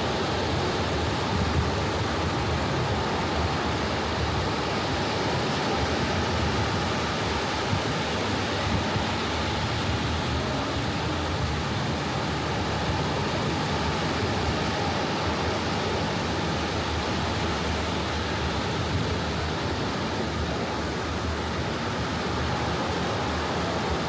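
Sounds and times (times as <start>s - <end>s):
ocean waves washing on beach: 0.0s - 24.0s.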